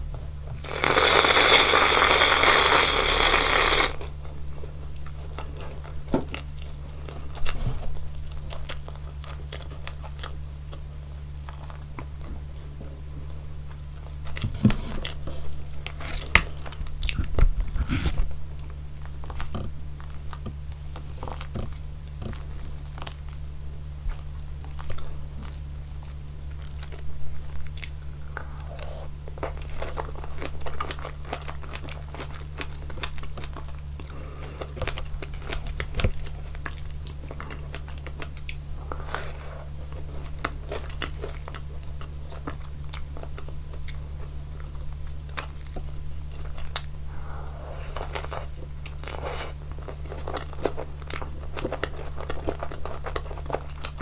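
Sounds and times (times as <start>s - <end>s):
crunchy bites and moist chewing: 0.1s - 12.7s, 13.6s - 54.0s.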